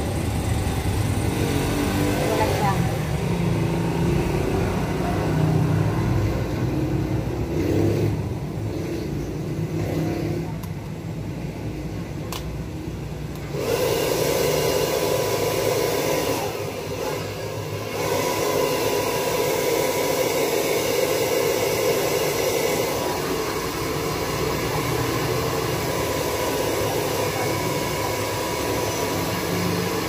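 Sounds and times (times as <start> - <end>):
blow dryer running: 0.0 - 8.6, 13.3 - 30.0.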